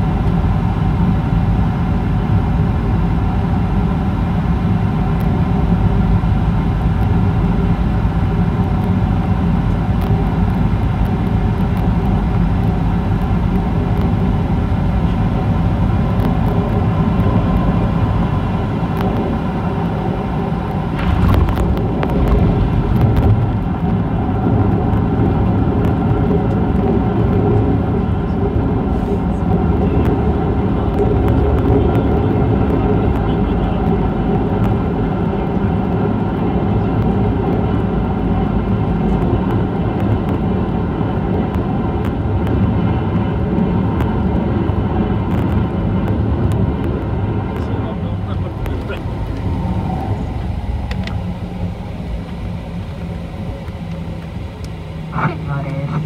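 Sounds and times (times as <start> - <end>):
jet engines and rushing air: 0.0 - 56.0
wheels rumbling on runway: 0.0 - 56.0.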